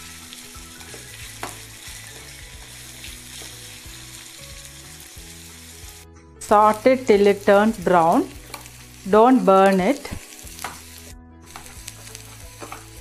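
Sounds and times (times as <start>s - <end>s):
shallots sizzling in oil: 0.0s - 13.0s.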